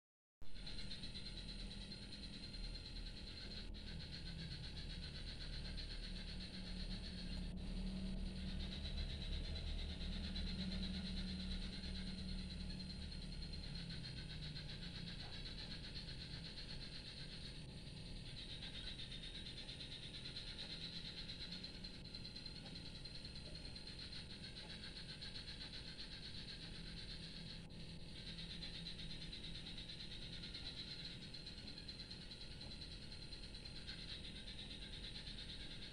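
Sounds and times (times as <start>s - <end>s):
steady low hum: 0.5s - 35.9s.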